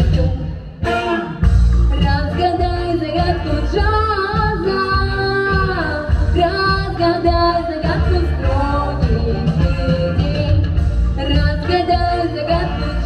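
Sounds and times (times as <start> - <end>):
music with bass and beat: 0.0 - 13.0.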